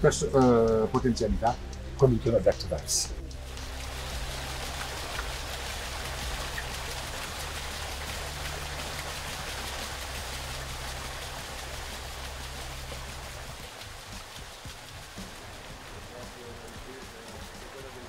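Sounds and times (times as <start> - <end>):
low steady drone: 0.0 - 18.0
water splashing on water wheel: 0.1 - 18.0.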